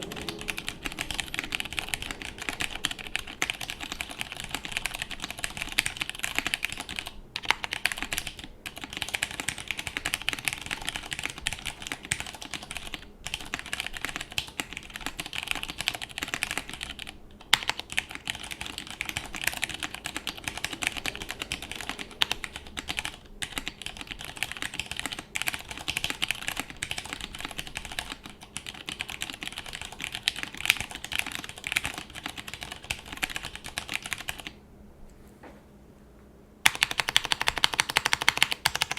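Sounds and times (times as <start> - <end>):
mechanical keyboard typing: 0.0 - 34.6, 36.6 - 38.9.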